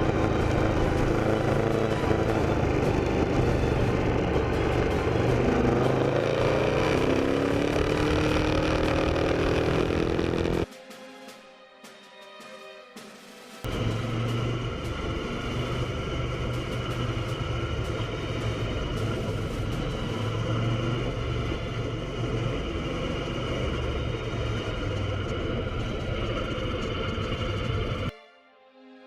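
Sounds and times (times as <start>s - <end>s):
motorcycle engine running: 0.0s - 10.7s, 13.7s - 28.1s.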